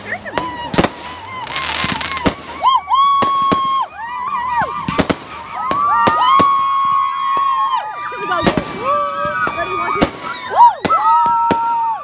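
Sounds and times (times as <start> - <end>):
fireworks bangs: 0.2 - 12.0.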